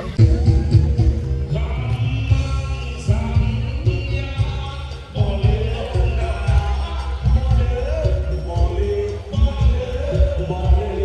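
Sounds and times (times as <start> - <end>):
music with heavy low beat: 0.0 - 11.0.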